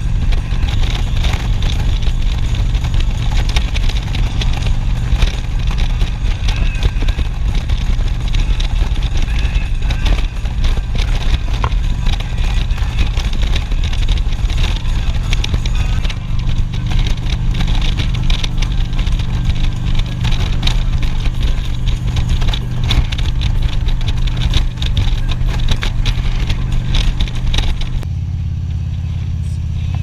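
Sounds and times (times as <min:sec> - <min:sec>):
wind buffeting microphone: 0:00.0 - 0:28.1
motorcycle engine running: 0:00.0 - 0:30.0.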